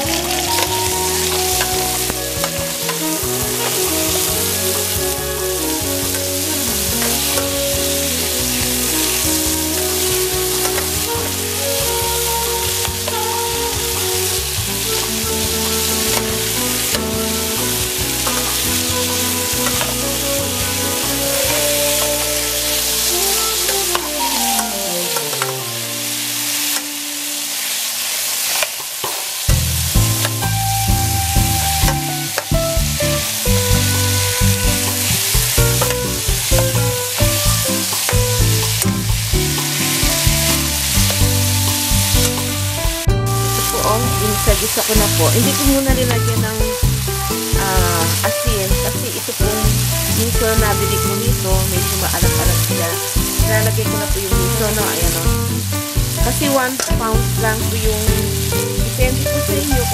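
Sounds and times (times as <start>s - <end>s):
music playing: 0.0s - 28.1s, 29.5s - 59.9s
food sizzling in a frying pan: 0.0s - 42.8s, 43.4s - 59.9s.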